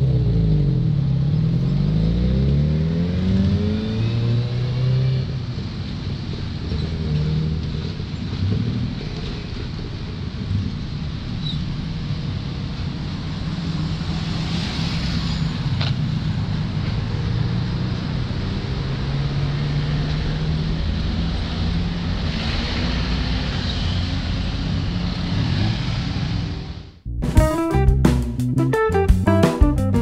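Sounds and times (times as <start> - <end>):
street traffic hum: 0.0 - 30.0.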